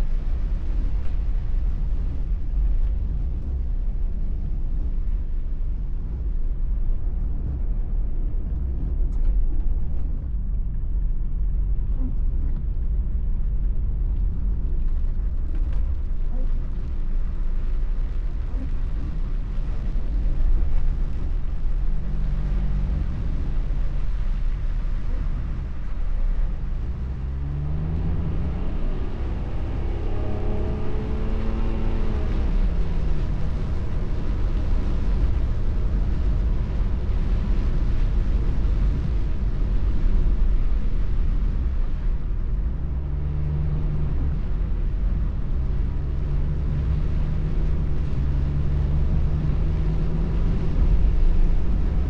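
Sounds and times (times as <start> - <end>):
car engine: 0.0 - 52.0
road rumble: 0.0 - 52.0.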